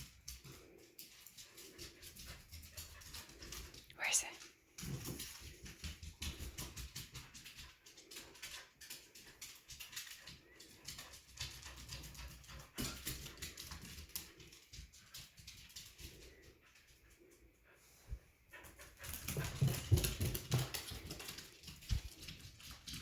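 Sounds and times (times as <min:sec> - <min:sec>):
patter of paws: 0:00.0 - 0:23.0.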